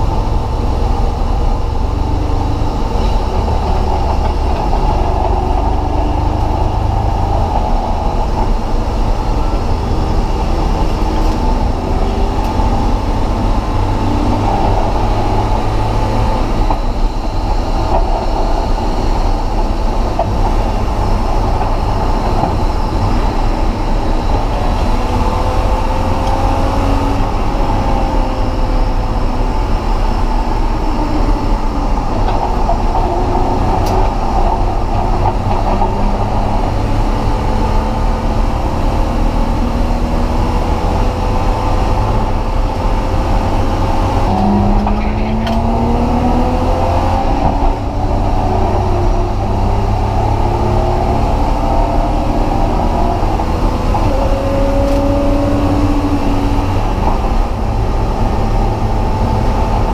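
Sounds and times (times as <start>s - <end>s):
car engine through gears: 0.0s - 59.9s
road and wind noise: 0.0s - 59.9s.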